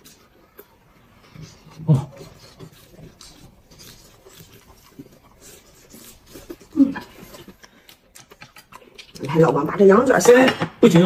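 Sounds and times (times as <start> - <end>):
people chewing lettuce: 0.0 - 10.2.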